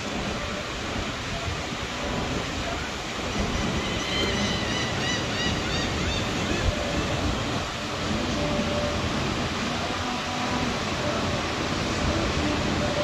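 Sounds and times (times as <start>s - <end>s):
surf breaking on beach: 0.0s - 13.0s
wind on microphone: 0.0s - 13.0s.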